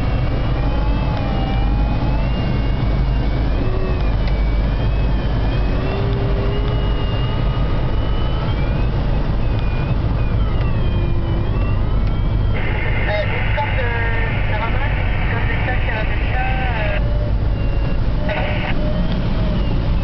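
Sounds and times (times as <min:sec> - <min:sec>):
glider engine drone in cockpit: 0:00.0 - 0:20.0.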